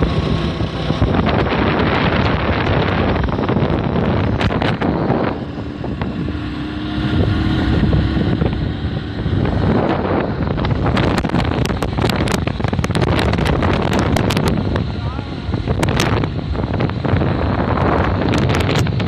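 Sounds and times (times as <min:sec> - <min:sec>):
sharp clicks and rattles: 0:00.0 - 0:06.2, 0:09.3 - 0:14.9, 0:15.5 - 0:19.0
wind buffeting microphone: 0:00.0 - 0:19.0.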